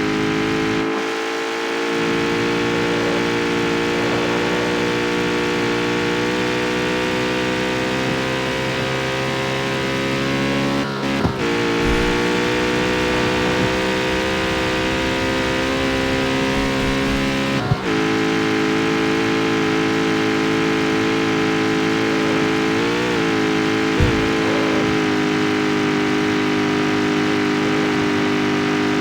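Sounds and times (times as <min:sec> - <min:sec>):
car engine running steadily: 0:00.0 - 0:29.0.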